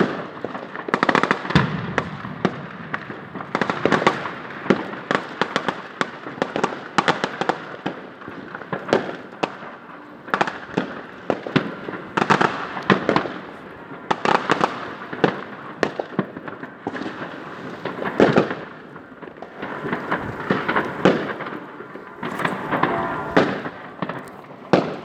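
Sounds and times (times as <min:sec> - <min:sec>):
fireworks and firecrackers bangs: 0:00.0 - 0:25.0.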